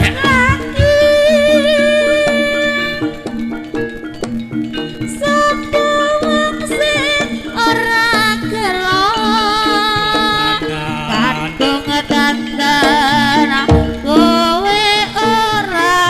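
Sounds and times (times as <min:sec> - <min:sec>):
pitched metallic percussion notes: 0:00.0 - 0:16.0
wavering melody line: 0:00.0 - 0:16.0.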